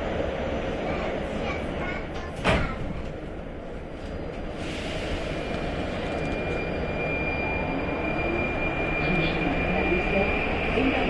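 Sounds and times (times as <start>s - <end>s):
metro train wheels rumbling: 0.0s - 11.0s.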